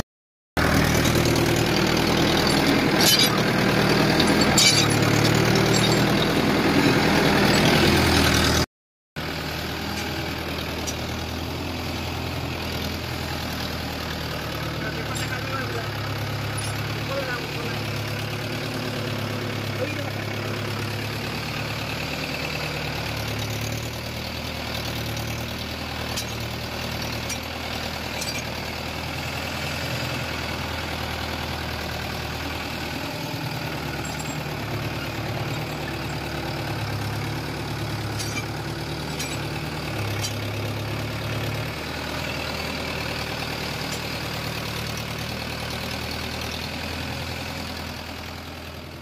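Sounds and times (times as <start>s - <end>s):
tractor diesel engine running: 0.6s - 49.0s.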